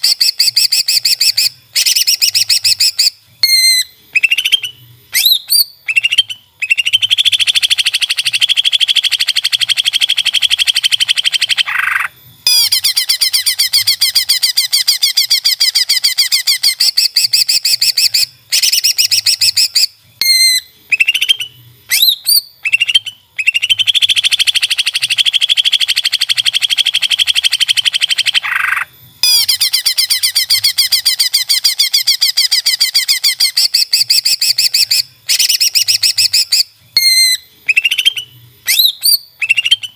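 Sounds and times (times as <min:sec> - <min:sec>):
bird trilling rapidly: 0:00.0 - 0:39.9
whistled bird chirps: 0:00.0 - 0:39.9.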